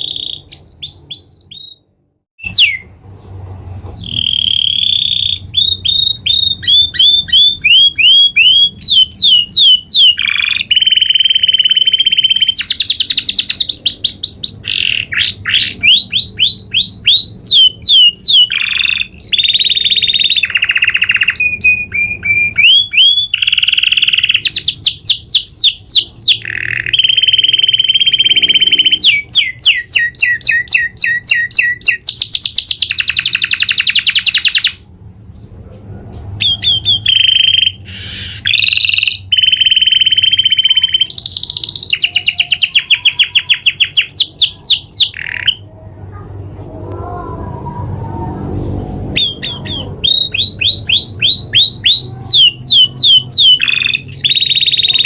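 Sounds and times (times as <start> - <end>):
canary singing: 0.0 - 3.4, 4.0 - 55.0.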